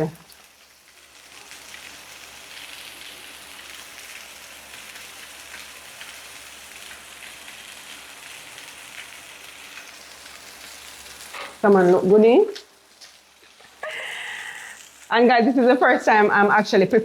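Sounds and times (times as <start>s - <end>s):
fish sizzling in a pan: 0.0s - 16.7s.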